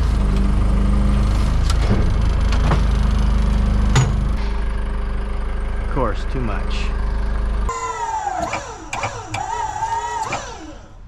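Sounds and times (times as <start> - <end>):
sawmill engine under load: 0.0 - 11.0.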